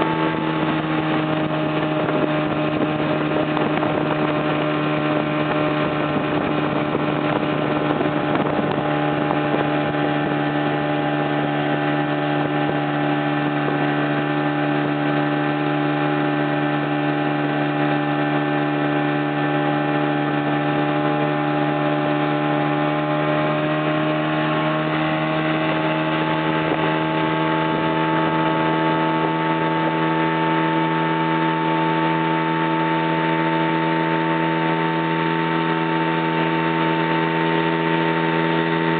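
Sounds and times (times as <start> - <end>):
motorboat engine droning: 0.0 - 38.9.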